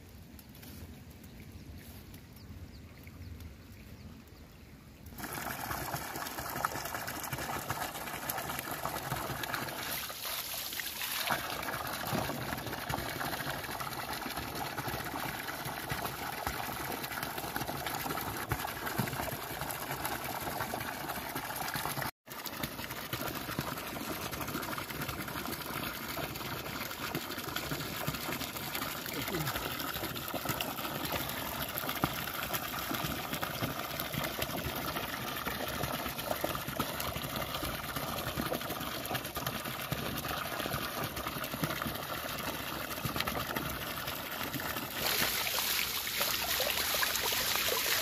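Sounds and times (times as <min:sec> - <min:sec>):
water pouring from pipe splashing: 0:05.1 - 0:48.0.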